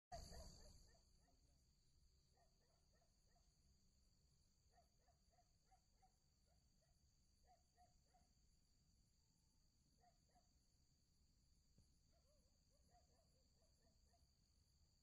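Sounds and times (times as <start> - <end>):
cricket trill: 0.1 - 15.0.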